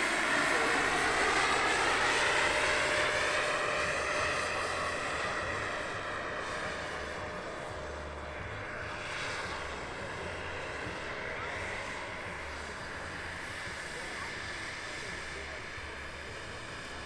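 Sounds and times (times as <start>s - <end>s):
model gas turbine whine: 0.0s - 17.0s.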